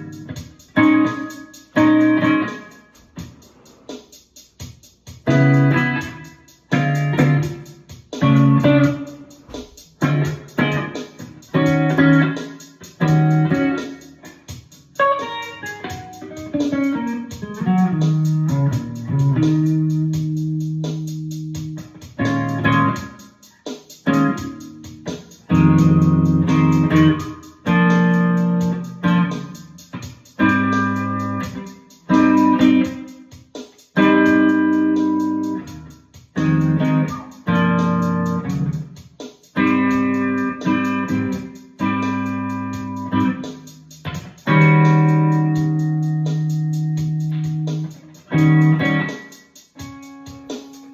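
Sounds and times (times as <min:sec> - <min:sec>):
guitar playing blues: 0:00.0 - 0:02.8, 0:05.2 - 0:14.4, 0:15.0 - 0:23.2, 0:24.0 - 0:33.2, 0:34.0 - 0:38.9, 0:39.6 - 0:50.9.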